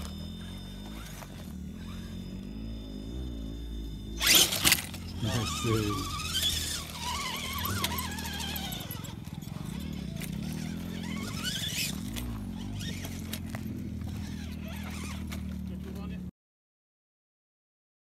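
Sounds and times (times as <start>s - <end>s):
electric motor whining: 0.0s - 16.2s.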